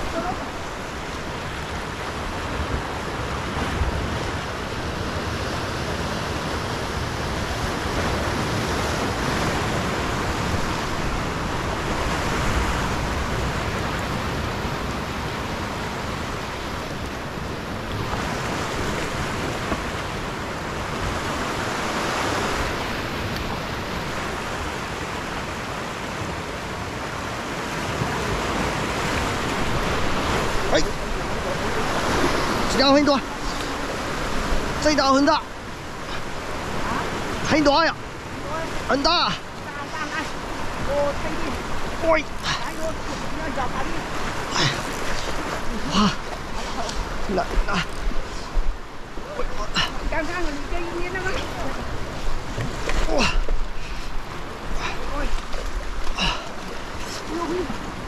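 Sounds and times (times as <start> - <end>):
surf washing over rocks: 0.0 - 58.0.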